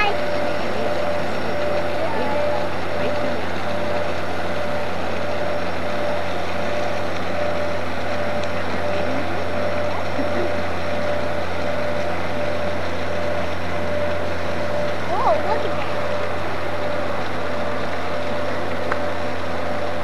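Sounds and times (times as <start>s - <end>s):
broad rushing noise: 0.0s - 20.0s
ship engine drone: 0.0s - 20.0s.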